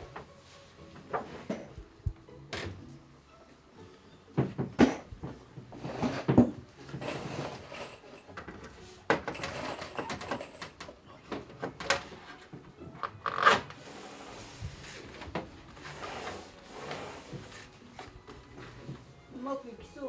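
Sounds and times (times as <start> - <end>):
wood scraping and handling: 0.0 - 1.8, 4.4 - 19.1.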